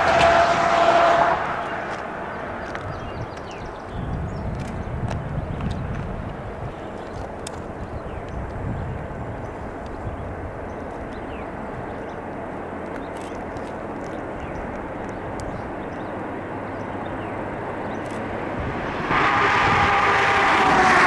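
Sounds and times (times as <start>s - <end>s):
train locomotives rumbling: 0.0s - 21.0s.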